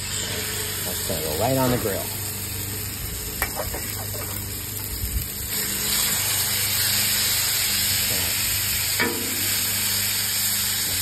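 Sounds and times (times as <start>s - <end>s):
chicken sizzling on a griddle: 0.0s - 11.0s.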